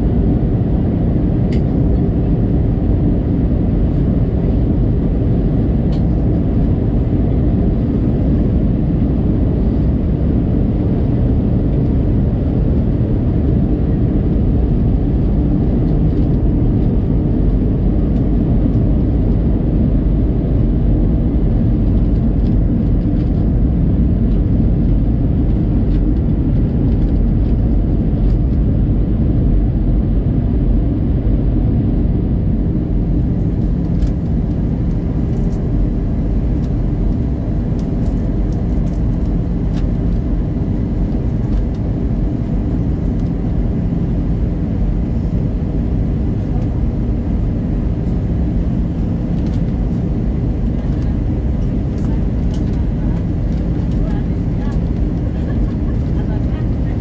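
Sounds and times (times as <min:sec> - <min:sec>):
airflow rush in aircraft cabin: 0:00.0 - 0:57.0
faint hum: 0:00.0 - 0:57.0
jet engine drone: 0:00.0 - 0:57.0.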